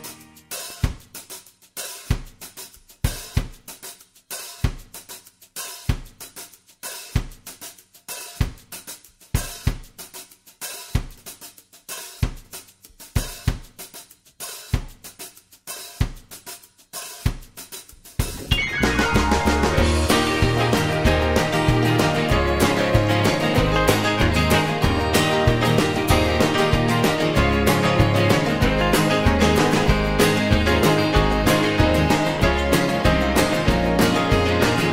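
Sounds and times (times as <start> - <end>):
drum-led background music: 0.0 - 34.9.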